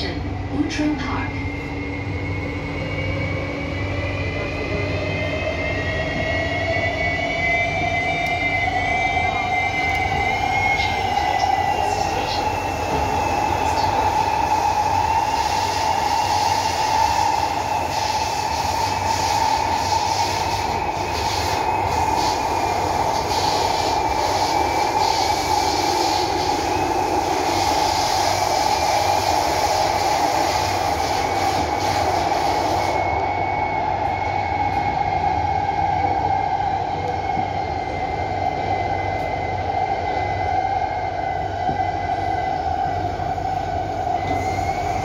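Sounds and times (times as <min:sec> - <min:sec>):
train rushing rumble: 0:00.0 - 0:45.0.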